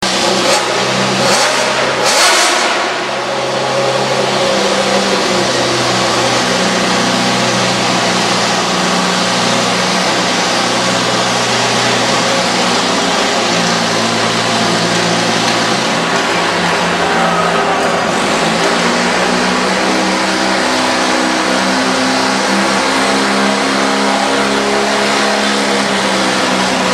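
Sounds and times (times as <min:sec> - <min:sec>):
pulling tractor engine at high revs: 0:00.0 - 0:26.9.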